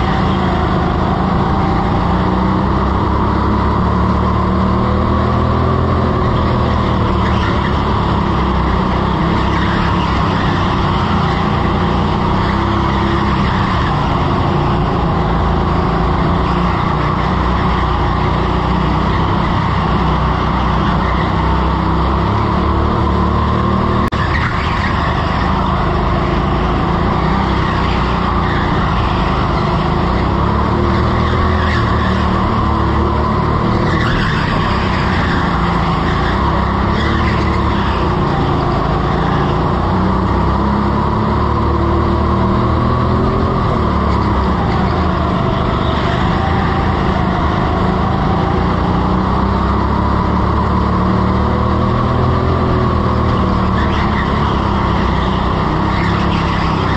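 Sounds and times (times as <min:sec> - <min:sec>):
go-kart motor: 0:00.0 - 0:56.9.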